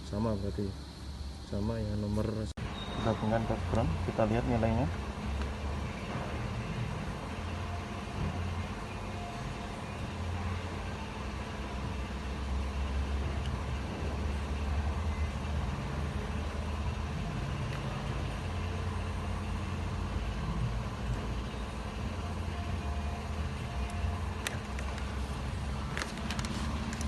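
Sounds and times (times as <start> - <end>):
machine rumbling with hiss: 0.0 - 27.0.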